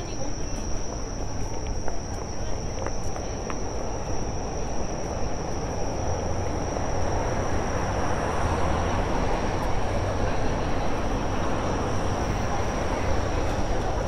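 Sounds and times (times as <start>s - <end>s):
busy city street rumble: 0.0s - 14.0s.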